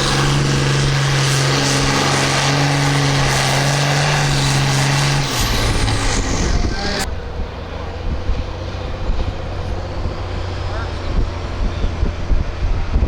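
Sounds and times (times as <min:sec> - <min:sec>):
tractor engine running hard: 0:00.0 - 0:13.0.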